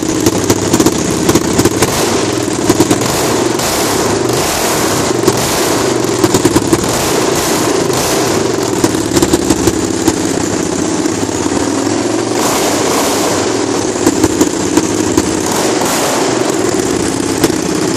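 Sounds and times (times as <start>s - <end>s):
exhaust pops: 0.0s - 17.9s
motorcycle engine open exhaust: 0.0s - 17.9s.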